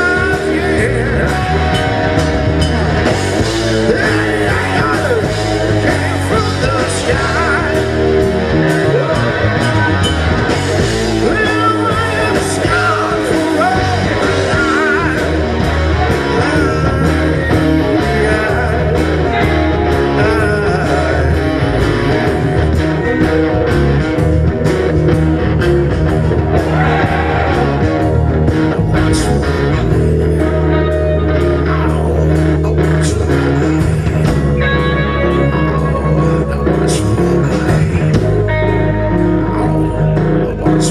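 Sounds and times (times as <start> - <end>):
rock band instrumental: 0.0 - 40.9.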